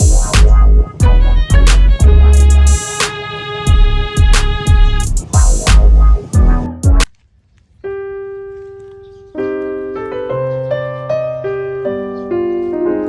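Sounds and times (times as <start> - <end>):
piano music: 0.0 - 7.1, 7.8 - 13.0.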